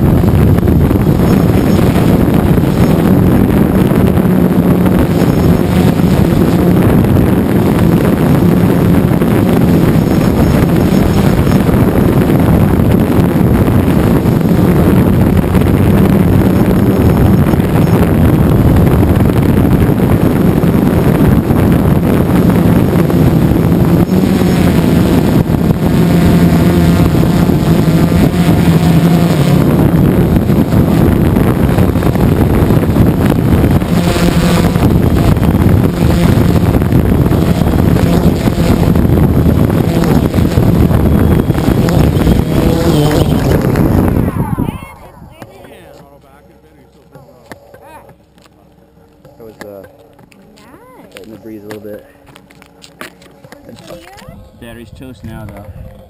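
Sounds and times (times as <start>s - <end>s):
drone propellers buzzing: 0.0s - 56.0s
high wavering whine: 0.0s - 56.0s
wind rushing over microphone: 0.0s - 56.0s.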